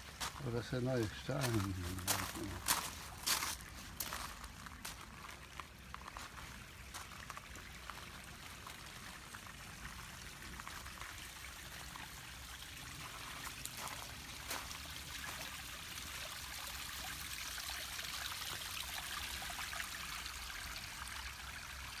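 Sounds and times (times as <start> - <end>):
fountain water trickling and splashing: 0.0 - 22.0.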